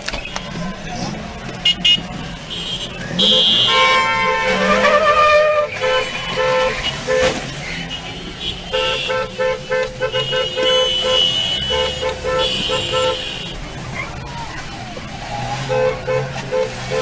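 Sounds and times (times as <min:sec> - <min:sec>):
car horn honking: 0:01.6 - 0:13.7, 0:15.4 - 0:17.0.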